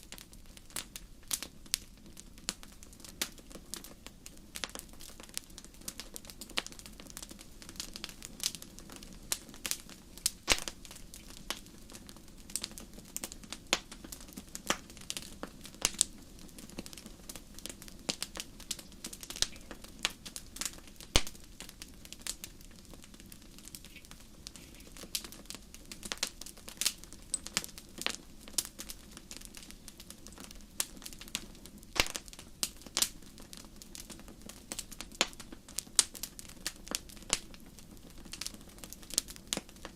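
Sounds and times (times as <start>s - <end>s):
low rumble of burning fire: 0.0s - 39.9s
wood fire pops and snaps: 0.1s - 39.9s.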